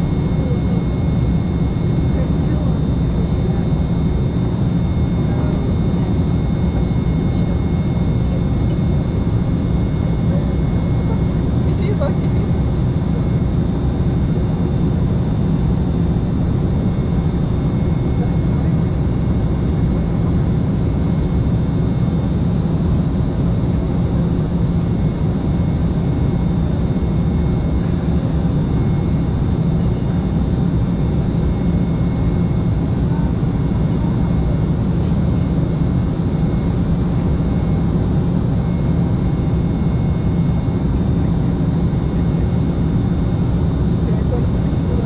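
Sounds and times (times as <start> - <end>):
jet engines droning in cabin: 0.0 - 45.0.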